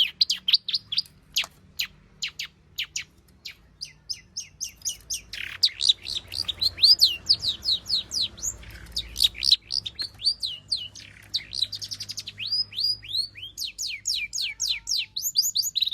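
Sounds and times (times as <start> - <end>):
bird singing whistled notes: 0.0 - 15.9.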